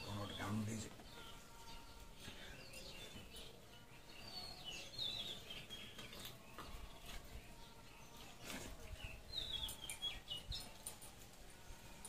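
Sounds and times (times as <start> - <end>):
faint bird chirps: 0.0 - 12.0
low background noise: 0.0 - 12.0.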